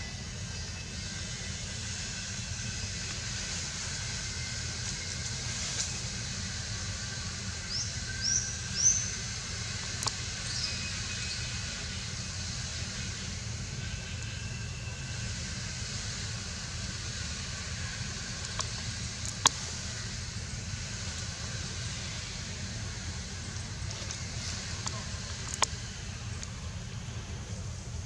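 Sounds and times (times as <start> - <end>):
low rumble and hiss: 0.0 - 28.0.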